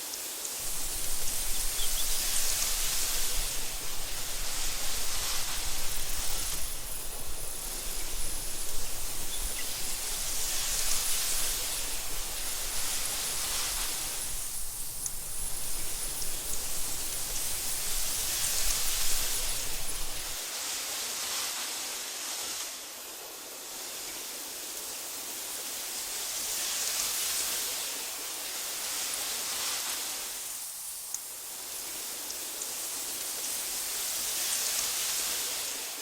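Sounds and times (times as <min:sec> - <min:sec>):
wind through grass: 0:00.0 - 0:36.0.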